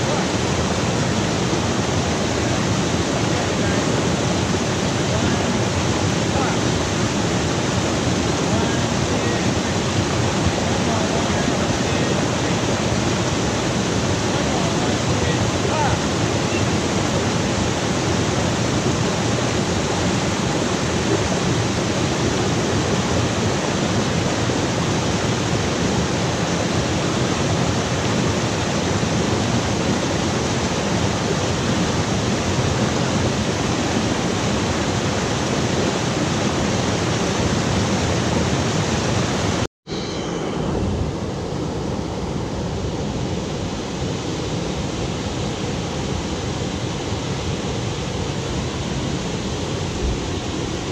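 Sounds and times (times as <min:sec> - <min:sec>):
falling water roaring: 0:00.0 - 0:50.9.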